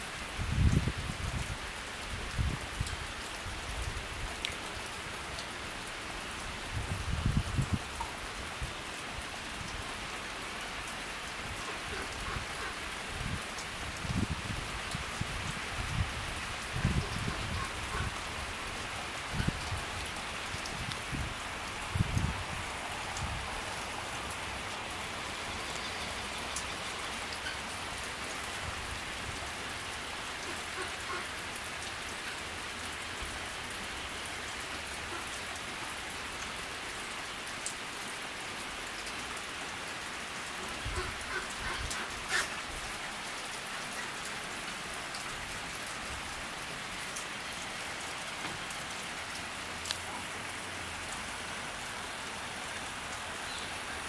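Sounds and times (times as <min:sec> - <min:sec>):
rain falling on lake and trees: 0:00.0 - 0:54.0.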